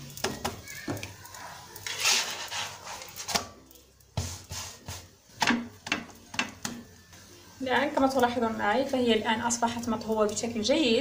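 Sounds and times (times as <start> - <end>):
flatbread sizzling in a pan: 0.0 - 11.0.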